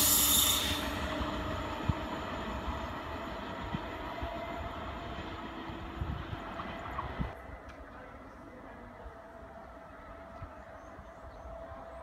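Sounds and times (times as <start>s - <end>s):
electric locomotive running: 0.0s - 12.0s.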